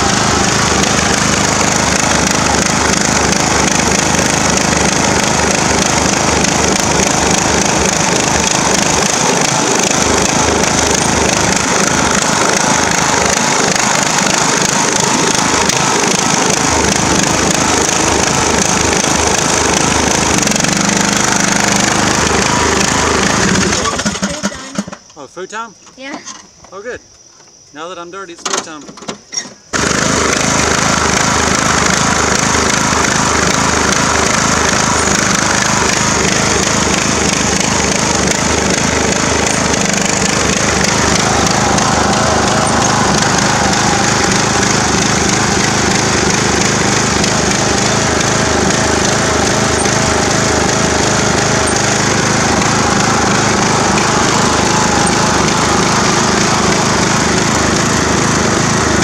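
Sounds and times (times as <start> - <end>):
riding lawn mower engine running hard: 0.0 - 25.0, 29.7 - 59.0.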